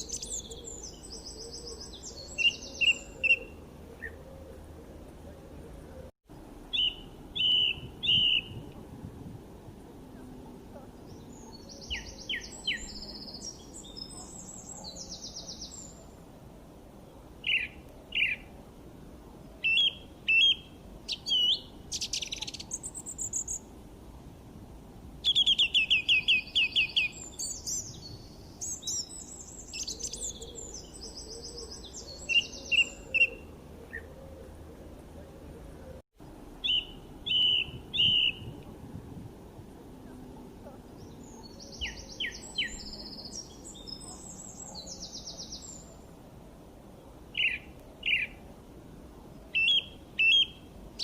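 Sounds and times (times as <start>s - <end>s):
songbirds singing and chirping: 0.0s - 23.7s, 25.2s - 38.8s, 39.8s - 51.0s
faint background hiss: 0.0s - 51.0s.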